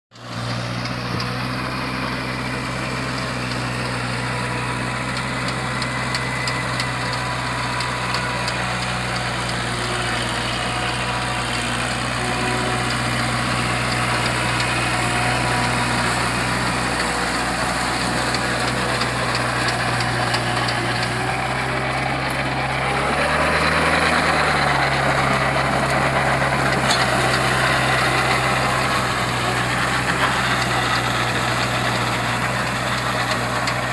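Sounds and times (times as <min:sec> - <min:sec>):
tractor diesel engine idling: 0:00.2 - 0:33.9.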